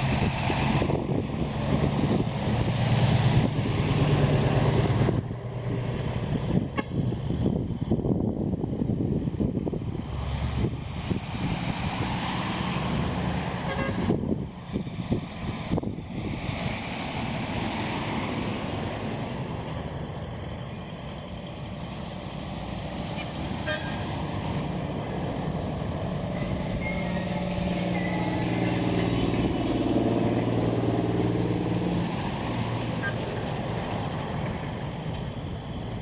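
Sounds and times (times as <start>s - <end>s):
truck engine driving past: 0.0s - 7.6s, 9.4s - 20.5s, 21.6s - 36.0s
wind noise on microphone: 0.0s - 36.0s.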